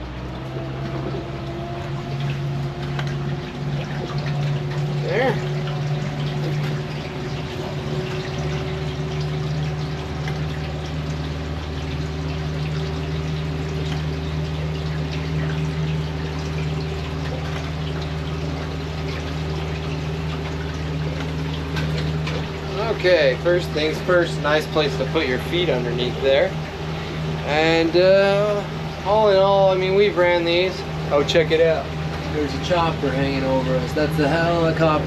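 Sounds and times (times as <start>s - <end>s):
deep hum: 0.0s - 35.0s
outboard motor running: 0.0s - 35.0s
water rushing along hull: 0.0s - 35.0s.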